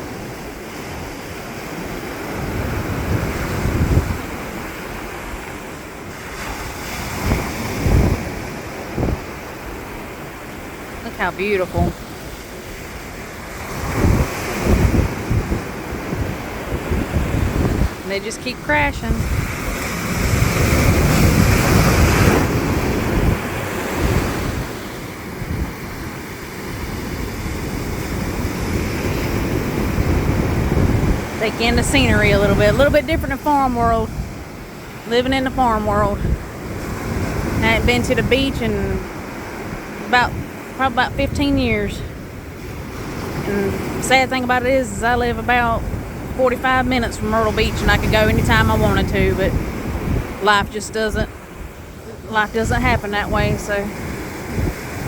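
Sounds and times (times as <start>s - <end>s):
surf breaking on a beach: 0.0s - 55.0s
wind buffeting microphone: 0.0s - 55.0s.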